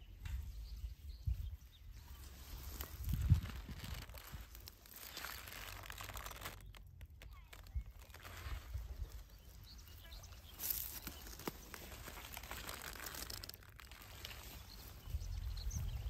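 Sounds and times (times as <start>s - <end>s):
hand brushing leaves: 2.0s - 15.2s.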